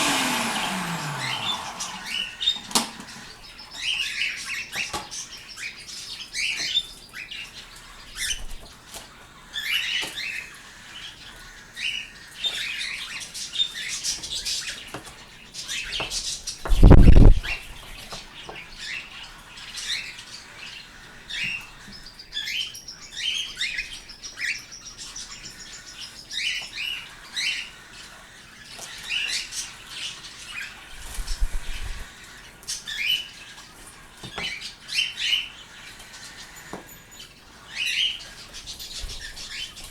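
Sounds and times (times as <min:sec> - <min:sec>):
pet birds chirping: 0:00.0 - 0:39.9.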